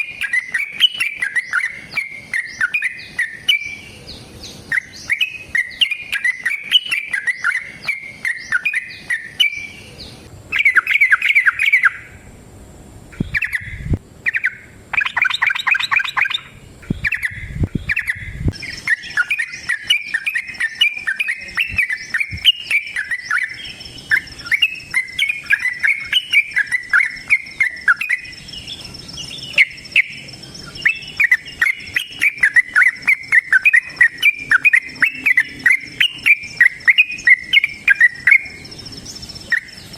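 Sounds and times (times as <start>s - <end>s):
bird singing chirps and trills: 0.0s - 12.3s, 13.1s - 39.9s.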